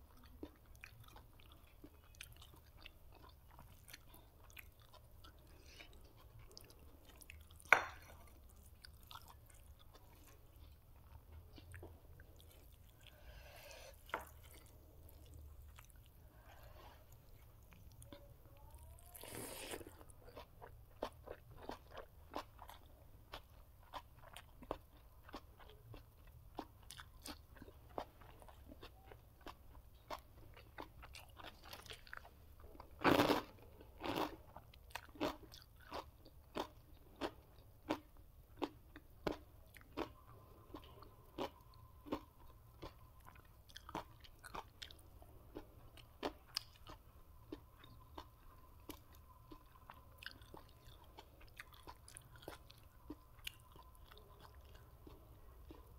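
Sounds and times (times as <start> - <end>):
person chewing and crunching food: 0.0 - 55.9.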